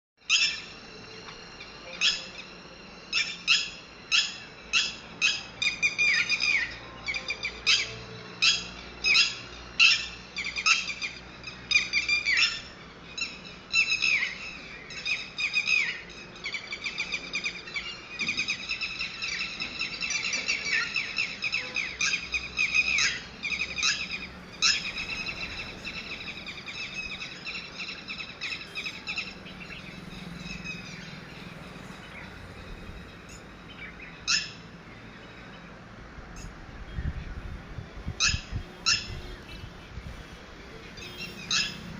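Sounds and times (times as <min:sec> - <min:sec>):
lapwing calling: 0:00.2 - 0:41.9.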